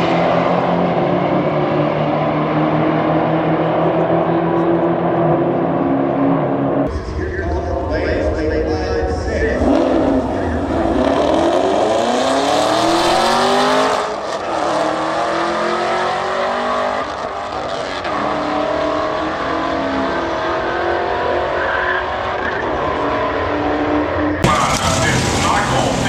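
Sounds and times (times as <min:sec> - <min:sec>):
racing car engine accelerating: 0:00.0 - 0:07.0, 0:09.4 - 0:26.0.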